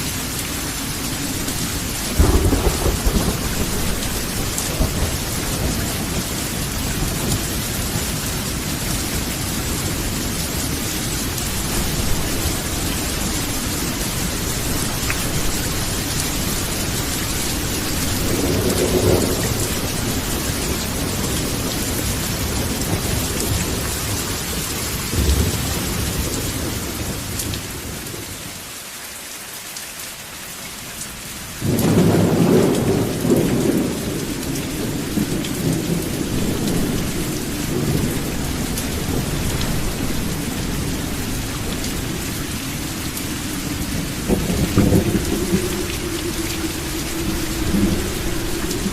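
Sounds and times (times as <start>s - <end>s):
steady rain falling: 0.0s - 48.9s
thunder rumbling: 0.8s - 28.3s, 31.6s - 48.9s.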